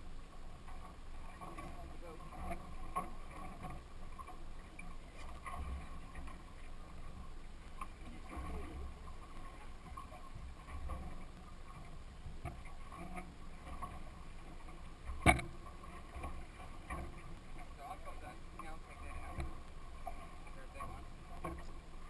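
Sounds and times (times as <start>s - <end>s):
water rumbling against hull: 0.0s - 22.0s
small knocks and clatter: 0.6s - 21.9s.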